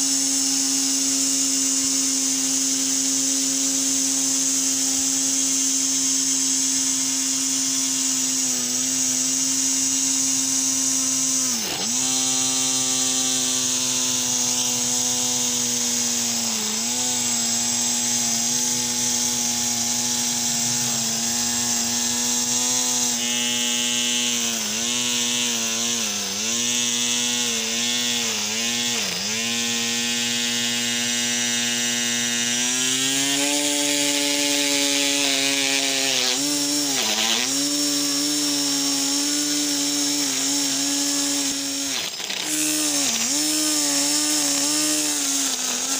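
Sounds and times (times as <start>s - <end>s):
cutter biting into grass: 0.0s - 45.9s
electric motor whining: 0.0s - 45.9s.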